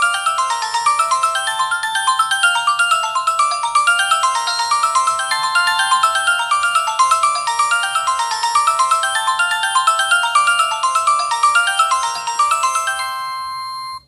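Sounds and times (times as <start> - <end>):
phone ringtone melody: 0.0 - 14.0.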